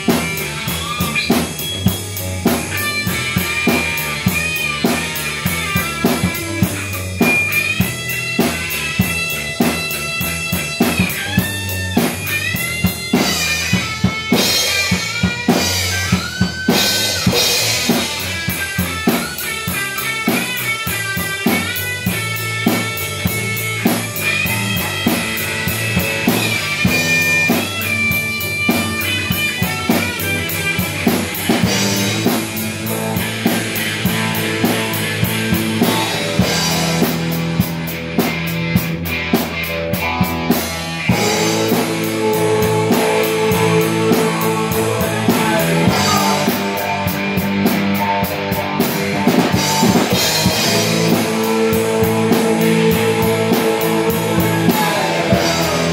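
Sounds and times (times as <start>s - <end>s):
drum kit: 0.0s - 55.9s
electric guitar notes: 0.0s - 55.9s.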